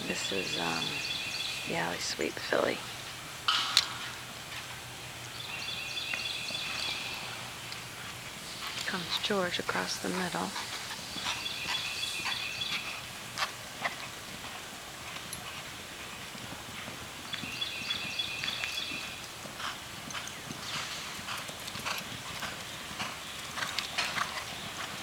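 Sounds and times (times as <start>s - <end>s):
horses galloping on dirt: 0.0s - 25.0s.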